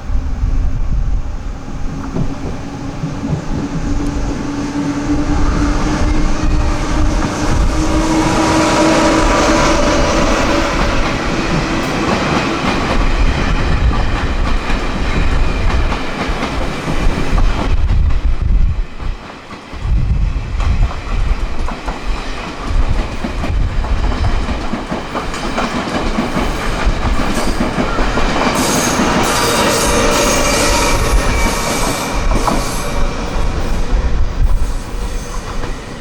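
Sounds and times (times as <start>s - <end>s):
train rumble: 0.0s - 36.0s
train wheels clacking on rails: 1.8s - 36.0s.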